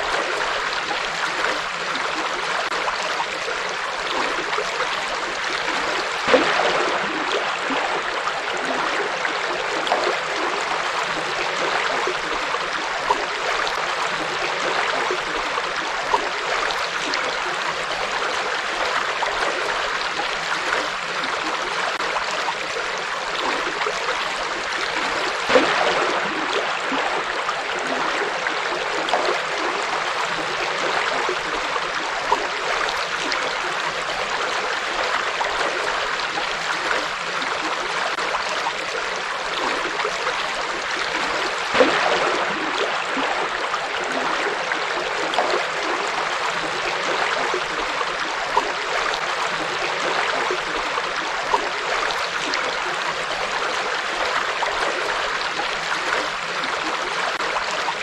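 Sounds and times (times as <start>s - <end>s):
water splashes: 0.0s - 58.0s.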